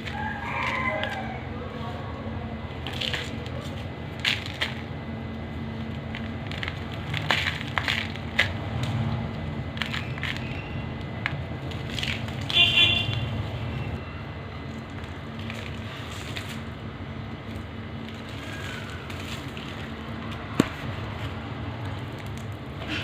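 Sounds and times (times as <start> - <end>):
crunchy texture being crushed: 0.0 - 23.0.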